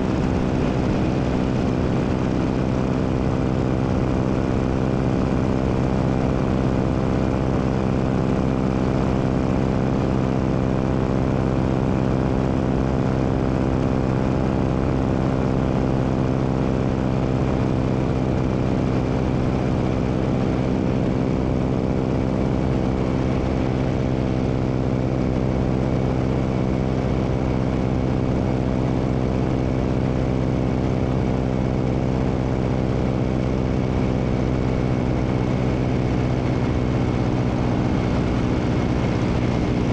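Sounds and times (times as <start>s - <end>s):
propeller plane engine droning: 0.0s - 39.9s
wind rushing over microphone: 0.0s - 39.9s.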